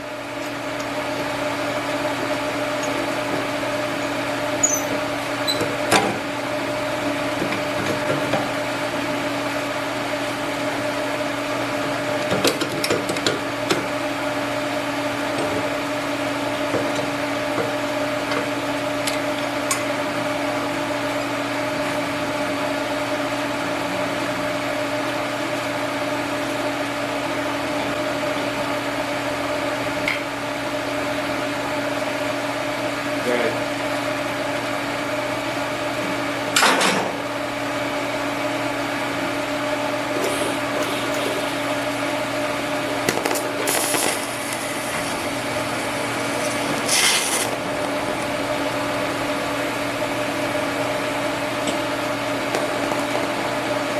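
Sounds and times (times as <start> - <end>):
electrical hum: 0.0 - 53.9.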